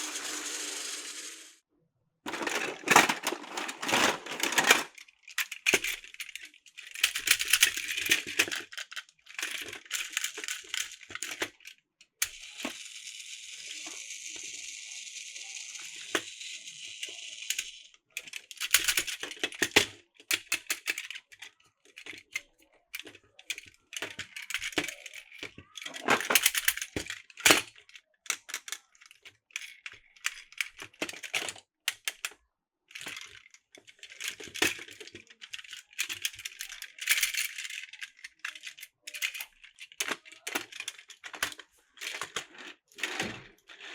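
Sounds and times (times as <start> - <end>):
plastic toy pieces clicking: 2.3 - 43.9.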